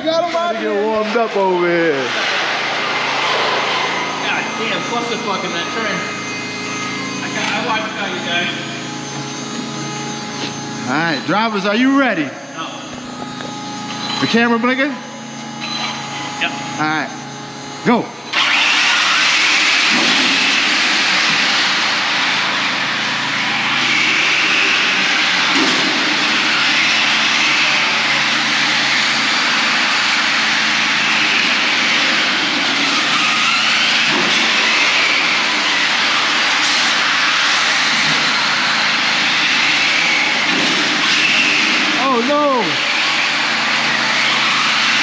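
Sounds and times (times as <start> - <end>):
radio-controlled car motors whining: 0.0 - 45.0.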